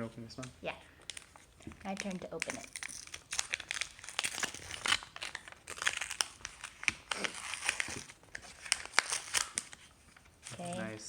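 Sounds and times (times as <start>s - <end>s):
foil packet crinkling and tearing: 0.9s - 10.6s.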